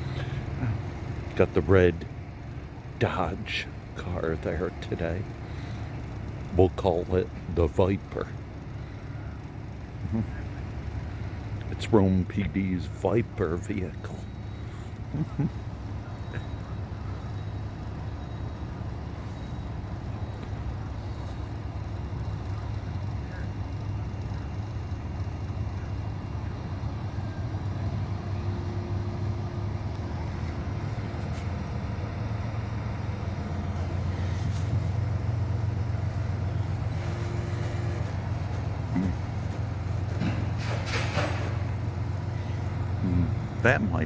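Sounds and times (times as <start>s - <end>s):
diesel truck engines idling: 0.0s - 44.0s.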